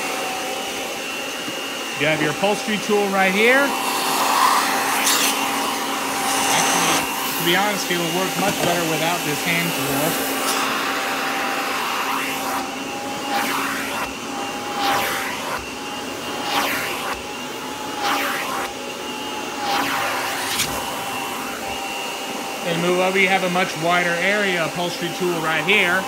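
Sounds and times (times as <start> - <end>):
vacuum cleaner motor running: 0.0 - 26.0.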